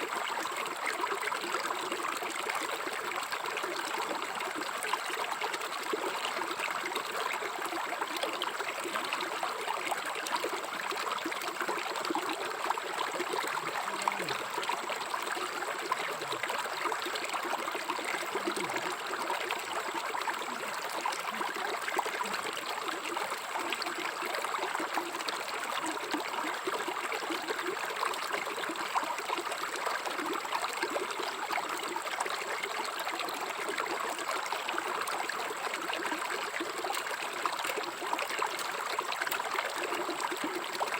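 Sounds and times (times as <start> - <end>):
river water flowing over stones: 0.0 - 40.9.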